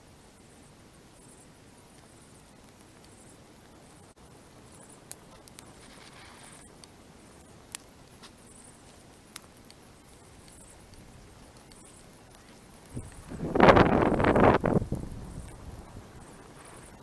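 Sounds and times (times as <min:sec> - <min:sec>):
low steady hiss: 0:00.0 - 0:17.0
campfire crackling and popping: 0:00.1 - 0:17.0.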